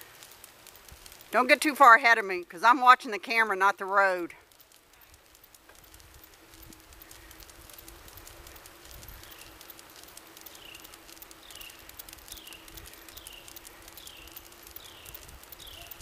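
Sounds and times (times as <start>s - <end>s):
bicycle clicks: 0.0s - 16.0s
bicycle tyres rumbling: 0.0s - 16.0s
faint steady hum: 0.0s - 16.0s.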